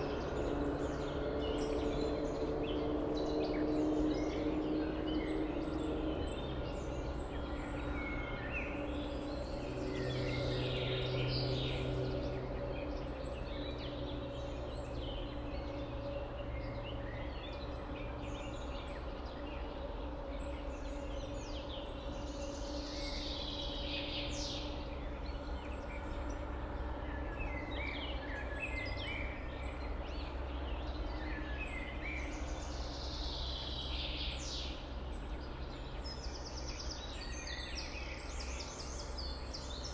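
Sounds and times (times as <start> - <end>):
birds singing and calling: 0.0 - 39.9
steady low hum: 0.0 - 39.9.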